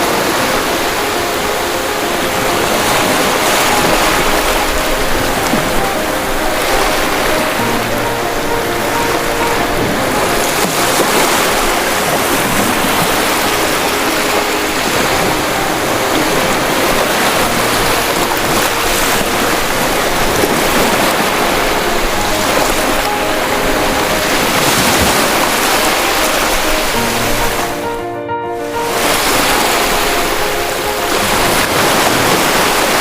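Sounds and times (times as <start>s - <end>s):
ocean waves washing in: 0.0s - 33.0s.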